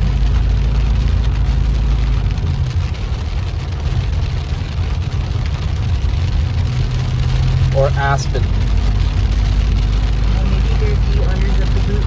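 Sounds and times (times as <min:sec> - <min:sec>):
car engine and tyres rumbling: 0:00.0 - 0:12.0
rain hitting car roof: 0:00.0 - 0:12.0.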